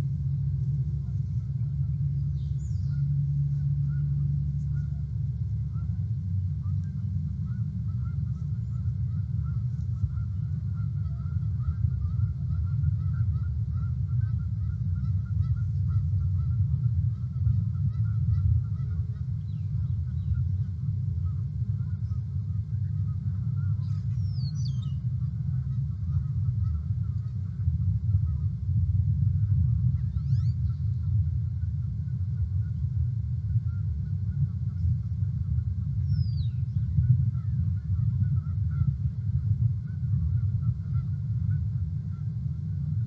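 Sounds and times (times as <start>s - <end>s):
distant flock of birds calling: 0.0s - 43.0s
steady low rumble: 0.0s - 43.0s.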